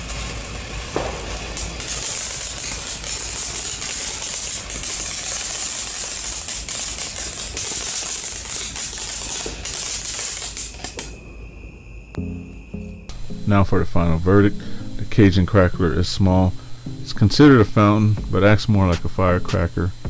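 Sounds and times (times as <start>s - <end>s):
fireworks fountain hissing: 0.0s - 12.4s, 13.1s - 20.0s
crackling pops: 0.8s - 11.1s, 13.1s - 20.0s.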